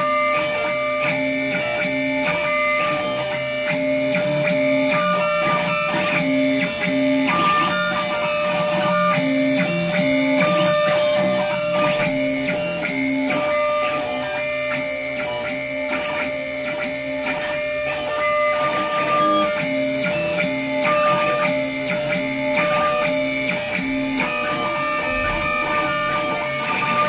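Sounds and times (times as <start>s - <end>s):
stepper motor tones: 0.0s - 27.0s
steady underlying tone: 4.6s - 27.0s.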